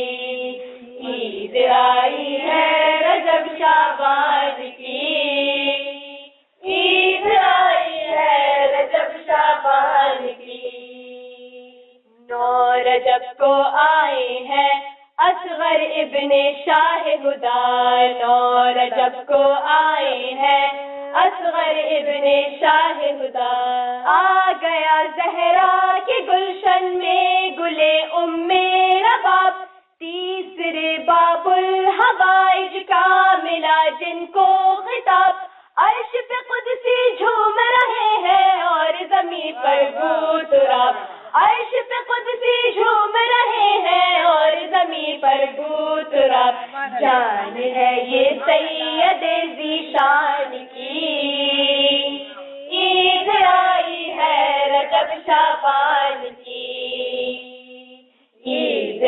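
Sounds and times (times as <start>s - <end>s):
girls singing together: 0.0s - 59.0s.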